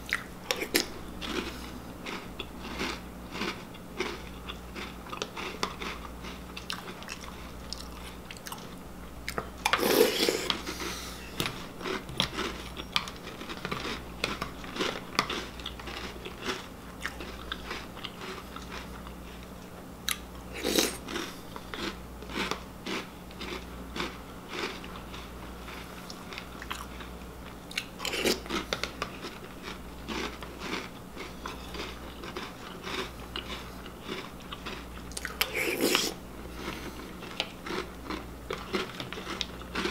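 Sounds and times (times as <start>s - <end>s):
crunching and chewing cereal: 0.0s - 39.9s.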